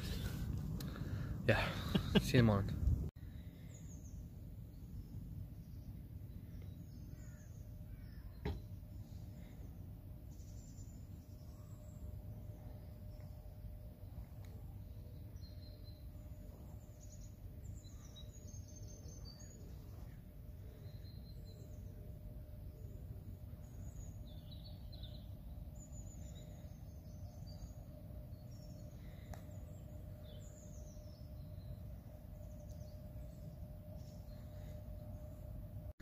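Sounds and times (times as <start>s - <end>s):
low background rumble: 0.0s - 36.0s
small birds chirping: 3.3s - 36.0s.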